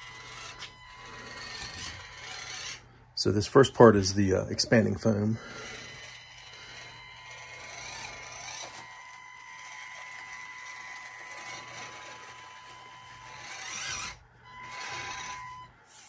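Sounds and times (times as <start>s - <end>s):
small electric motor whining: 0.0s - 16.0s.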